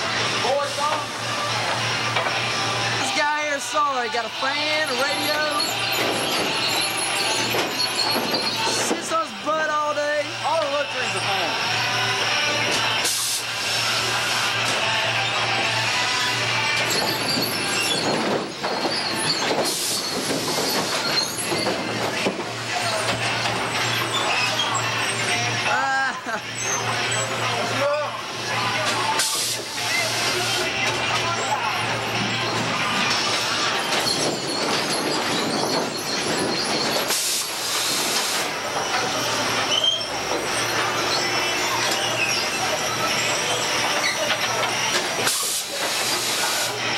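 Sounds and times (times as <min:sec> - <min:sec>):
chain conveyors clattering and squealing: 0:00.0 - 0:46.9
metal machinery running: 0:00.0 - 0:46.9.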